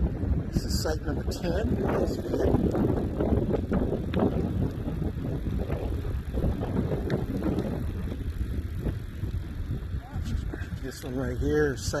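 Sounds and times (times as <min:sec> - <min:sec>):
bicycle clicks and rattles: 0:00.0 - 0:12.0
wind buffeting microphone: 0:00.0 - 0:12.0.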